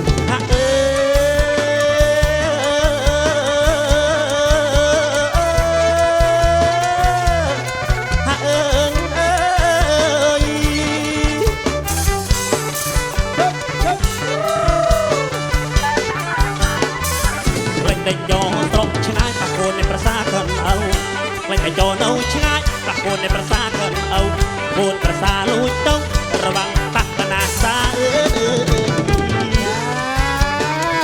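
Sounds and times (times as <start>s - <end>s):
steady drum beat: 0.0s - 31.0s
wavering melody line: 0.0s - 31.0s.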